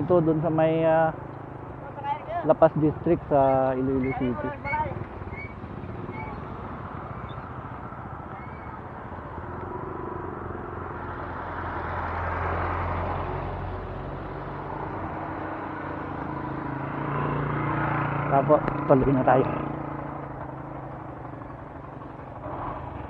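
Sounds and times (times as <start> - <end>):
motorcycle engine running: 0.0 - 12.2, 13.6 - 23.0
road and wind noise: 0.0 - 23.0.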